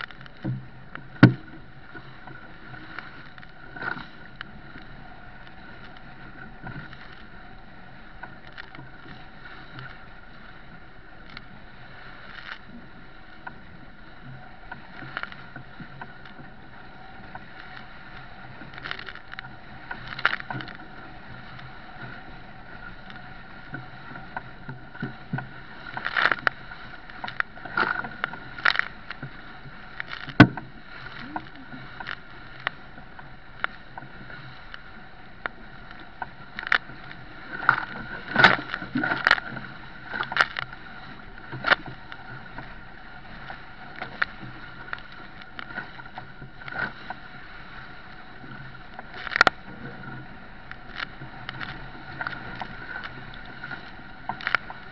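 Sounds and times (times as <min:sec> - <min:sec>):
waves slapping against bow: 0:00.0 - 0:54.9
wind and water rushing along hull: 0:00.0 - 0:54.9.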